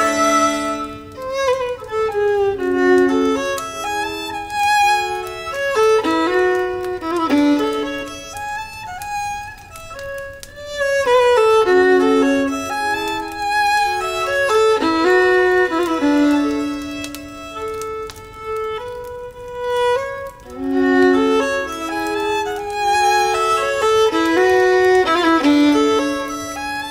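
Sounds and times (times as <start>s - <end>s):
violins playing in harmony: 0.0s - 26.9s.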